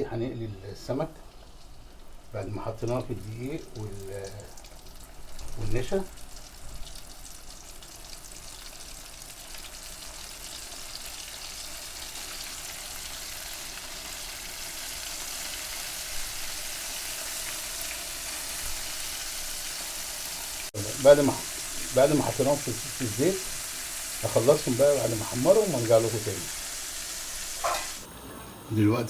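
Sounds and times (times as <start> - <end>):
fish deep-frying in hot oil: 0.9 - 28.2.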